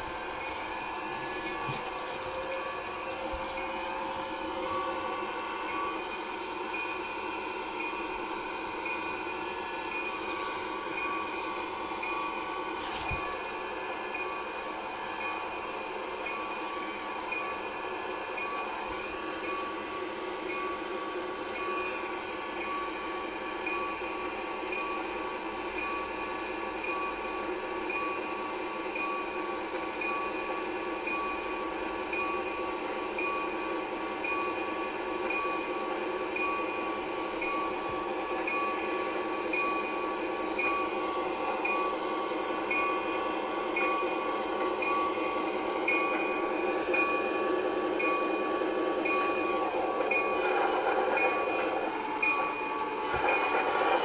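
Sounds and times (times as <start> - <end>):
locomotive running: 0.0 - 54.0
train bell ringing: 0.0 - 54.0.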